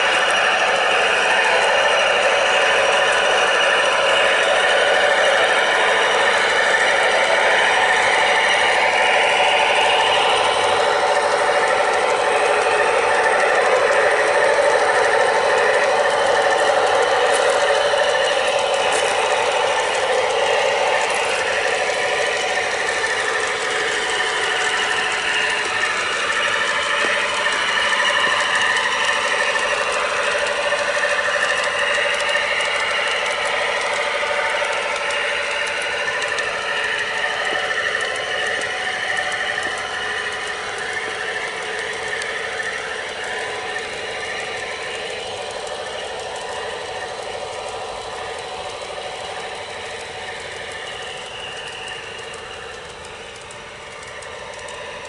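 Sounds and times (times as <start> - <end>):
model train motors rattling: 0.0 - 55.0
wagons rolling on rails: 0.0 - 55.0.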